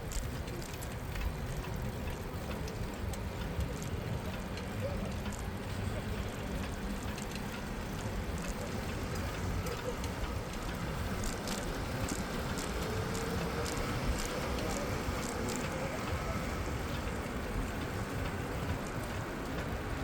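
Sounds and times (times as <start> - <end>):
light ticks and clicks: 0.0 - 20.0
street traffic rumble: 0.0 - 20.0.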